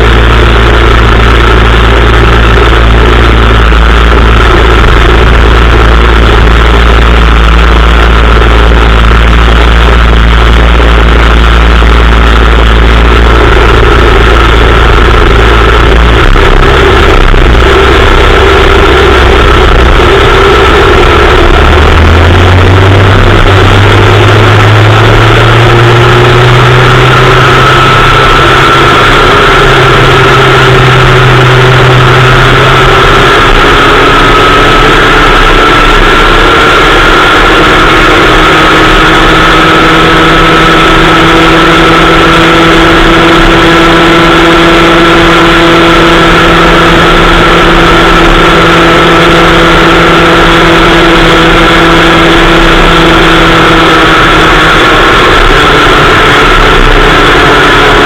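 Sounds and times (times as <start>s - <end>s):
two-stroke kart engine running hard: 0.0s - 58.0s.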